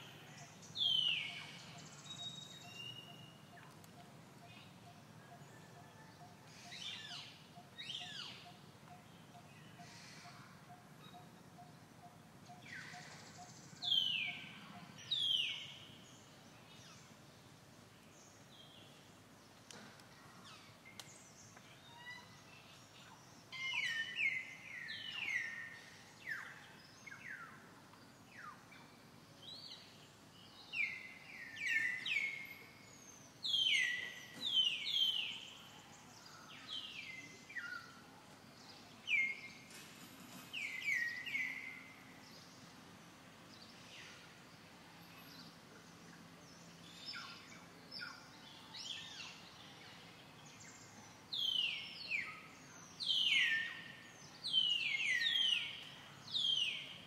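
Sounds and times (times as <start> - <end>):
faint outdoor hiss: 0.0 - 57.0.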